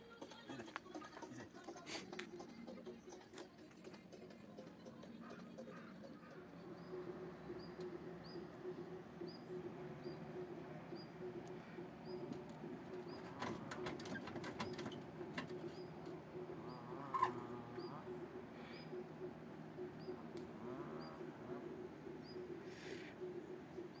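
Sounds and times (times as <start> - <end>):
low rolling hum: 2.5 - 24.0.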